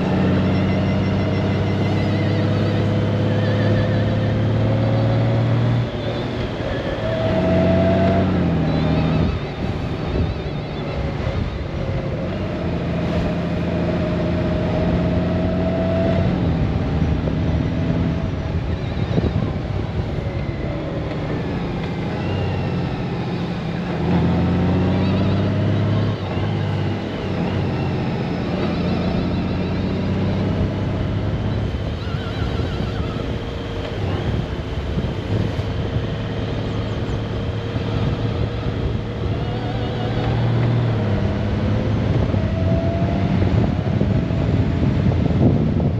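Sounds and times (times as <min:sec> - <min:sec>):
wind noise: 0:00.0 - 0:45.9.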